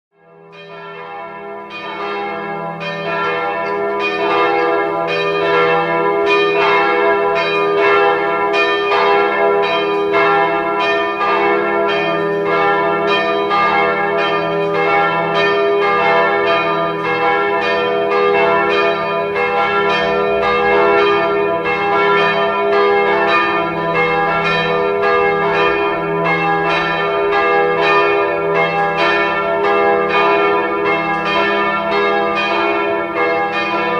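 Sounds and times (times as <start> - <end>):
small church bells striking: 0.2 - 33.9
large bells humming: 0.5 - 33.9.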